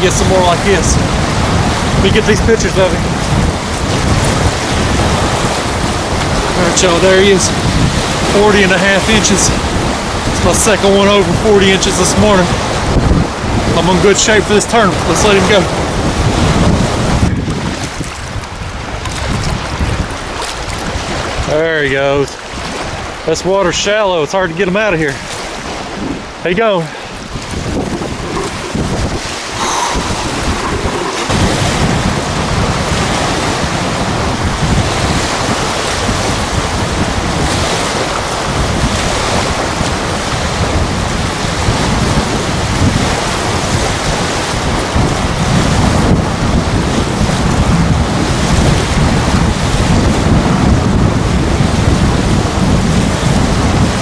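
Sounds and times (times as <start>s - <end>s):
waves washing onto shore: 0.0s - 54.0s
wind buffeting microphone: 0.0s - 54.0s.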